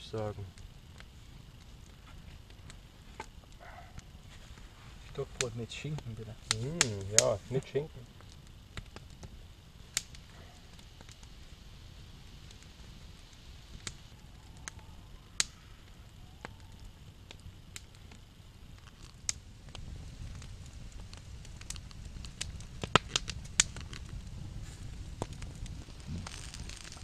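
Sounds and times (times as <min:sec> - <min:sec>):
campfire crackling and popping: 0:00.0 - 0:27.0
rush of flame: 0:00.0 - 0:27.0.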